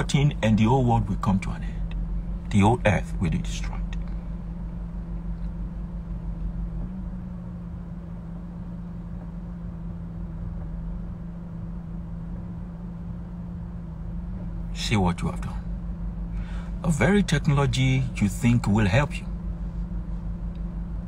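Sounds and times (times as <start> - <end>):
car cabin drone: 0.0 - 21.0.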